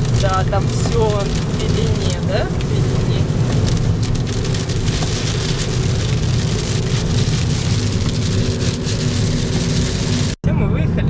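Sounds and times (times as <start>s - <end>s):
car engine and tyre drone: 0.0s - 10.4s
rain hissing on windshield: 0.0s - 10.4s.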